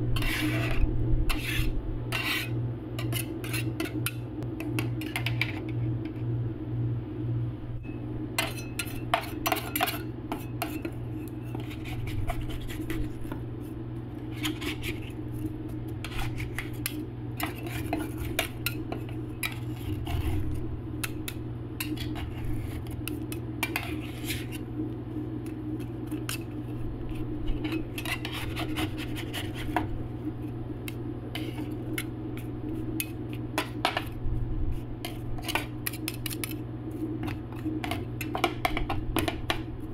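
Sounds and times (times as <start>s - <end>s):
steady low hum: 0.0s - 39.9s
metal spatulas scraping cold plate: 0.1s - 5.7s, 8.4s - 13.4s, 14.3s - 15.4s, 16.0s - 24.7s, 25.8s - 29.9s, 31.3s - 34.2s, 35.0s - 39.6s.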